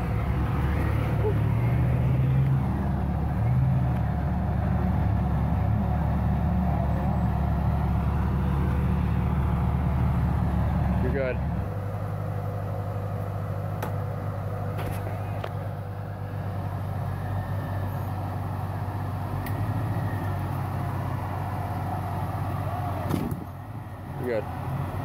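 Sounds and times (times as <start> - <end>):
engine running low: 0.0 - 25.0.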